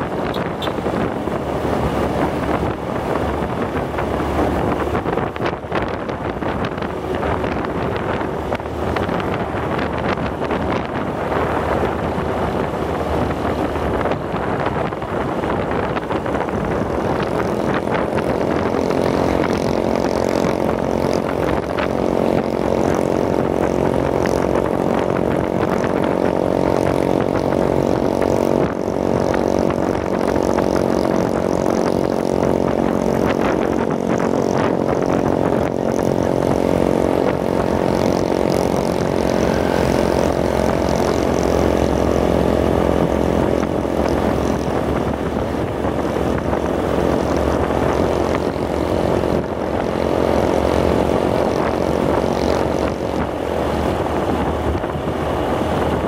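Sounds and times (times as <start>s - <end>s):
scooter engine running: 0.0s - 56.0s
wind rushing over microphone: 0.0s - 56.0s.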